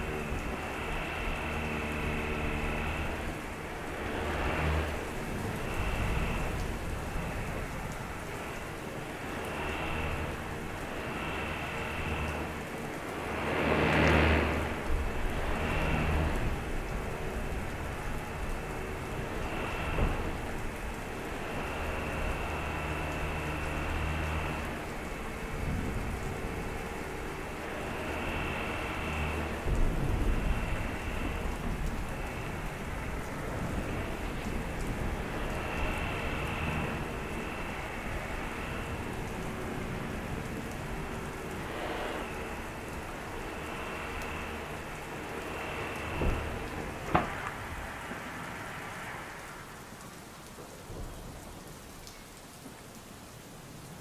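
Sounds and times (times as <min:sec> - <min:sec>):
low thunder rumbling: 0:00.0 - 0:50.0, 0:50.6 - 0:51.9
heavy rain: 0:00.0 - 0:54.0.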